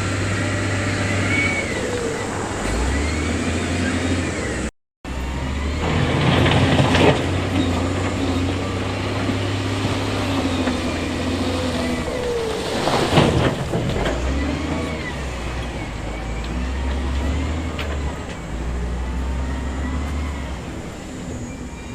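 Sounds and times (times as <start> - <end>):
heavy diesel engine running: 0.0 - 21.9.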